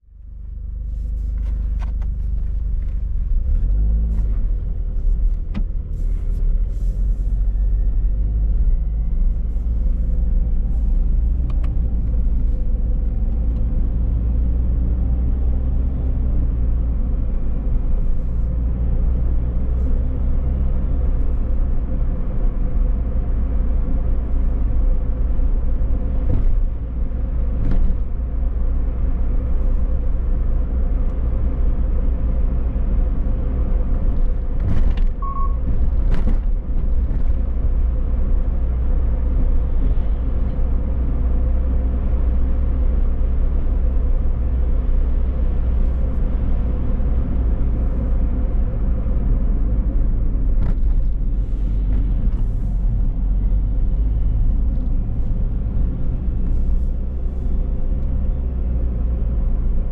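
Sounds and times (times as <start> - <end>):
car engine rumble: 0.0 - 59.9
road noise: 0.0 - 59.9.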